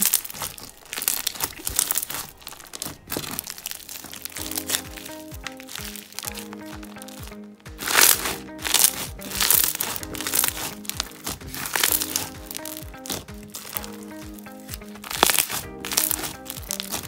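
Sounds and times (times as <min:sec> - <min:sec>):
background music: 0:00.0 - 0:17.0
slime popping when squeezed: 0:00.0 - 0:17.0.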